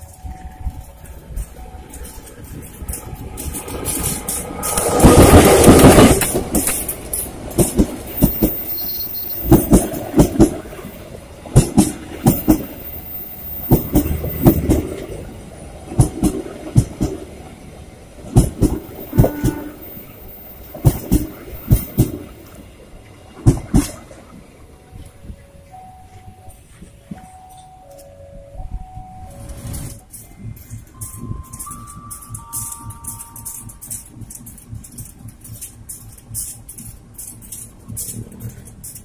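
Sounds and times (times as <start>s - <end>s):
train wheels clacking over rail joints: 0.0s - 17.6s, 18.2s - 22.6s, 23.4s - 24.3s, 29.6s - 39.0s.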